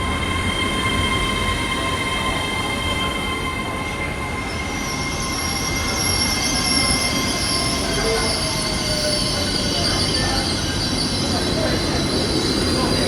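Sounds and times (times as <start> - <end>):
train rumbling on rails: 0.0 - 13.0
train wheels squealing: 0.0 - 13.0.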